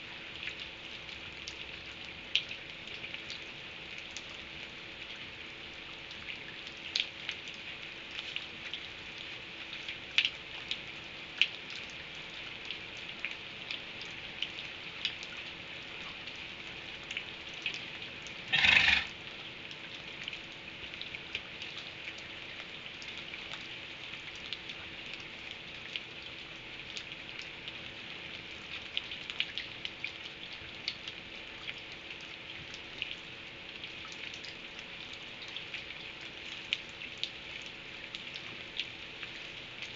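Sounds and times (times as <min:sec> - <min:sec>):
rain pattering: 0:00.0 - 0:39.9
sharp raindrop ticks: 0:00.4 - 0:04.8, 0:06.1 - 0:39.9.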